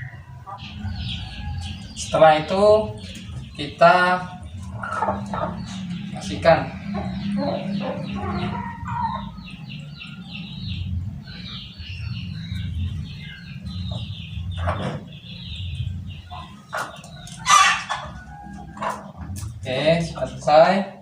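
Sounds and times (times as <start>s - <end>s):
hen clucking: 0.0s - 20.8s.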